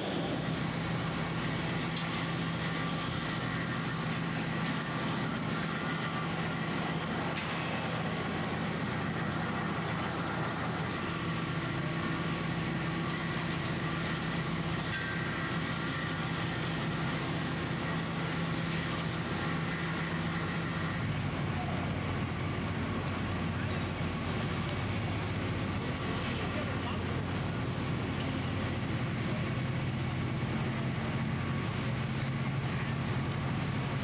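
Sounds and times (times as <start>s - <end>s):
construction machinery drone: 0.0s - 34.0s.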